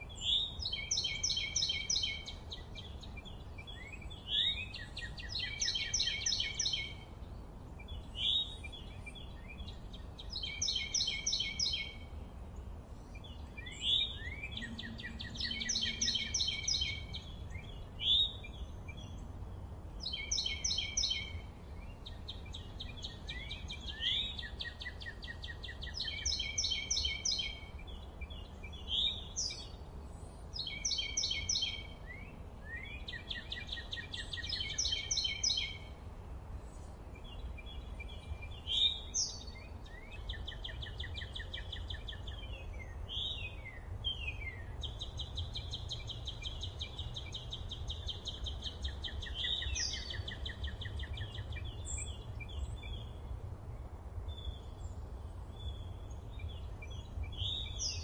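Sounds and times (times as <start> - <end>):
birds singing trills and chirps: 0.0 - 58.0.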